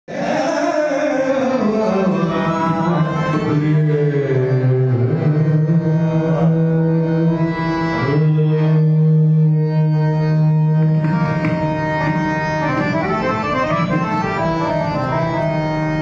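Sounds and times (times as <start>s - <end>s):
man singing devotional melody: 0.1s - 16.0s.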